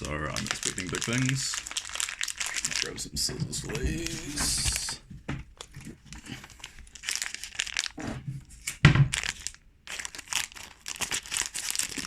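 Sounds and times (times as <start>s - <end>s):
snack packaging crinkling: 0.0s - 12.0s.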